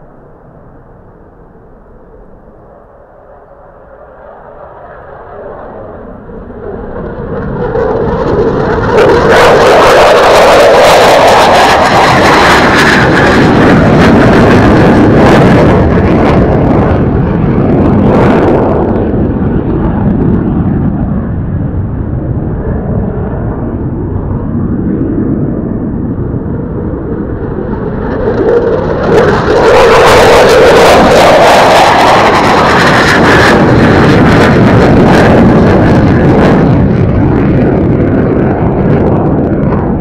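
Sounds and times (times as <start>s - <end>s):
approaching jet noise: 0.0s - 40.0s
fighter jet engine roar: 0.0s - 40.0s.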